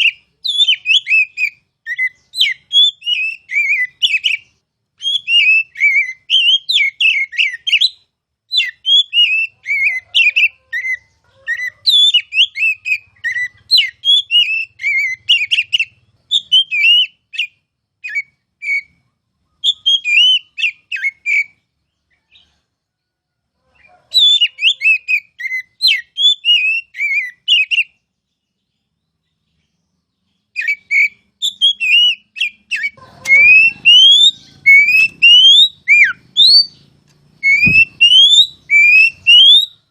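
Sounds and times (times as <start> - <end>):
bird singing chirps and whistles: 0.0 - 21.7, 24.1 - 39.9
long rising bird whistles: 0.0 - 22.6, 23.8 - 28.0, 30.4 - 39.9.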